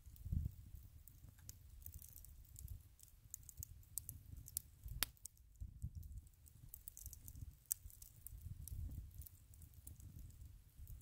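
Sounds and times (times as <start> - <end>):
campfire coals crackling: 0.0 - 11.0.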